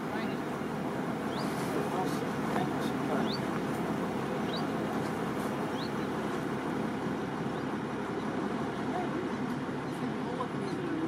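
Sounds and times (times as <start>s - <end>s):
ferry engine drone: 0.0s - 11.0s
water churning: 0.0s - 11.0s.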